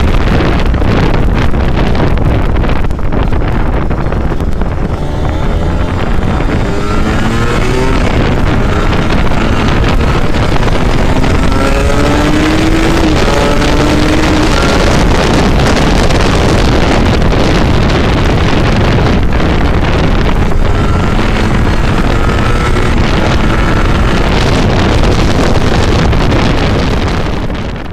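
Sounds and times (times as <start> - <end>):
motorcycle engine revving: 0.0 - 27.9
wind rushing on microphone: 0.0 - 27.9.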